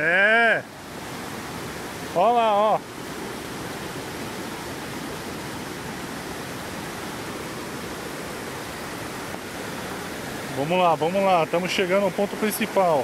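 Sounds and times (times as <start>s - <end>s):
stream water tumbling over stones: 0.0s - 13.0s.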